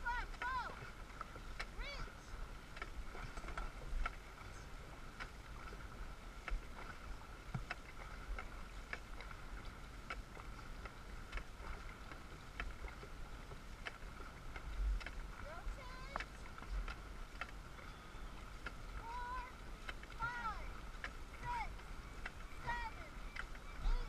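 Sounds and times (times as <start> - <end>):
paddles splashing in water: 0.0 - 24.0
water rushing along hull: 0.0 - 24.0.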